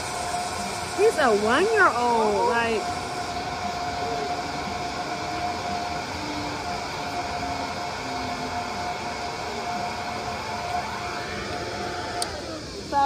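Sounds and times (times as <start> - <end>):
small fan motor whine: 0.0 - 13.0.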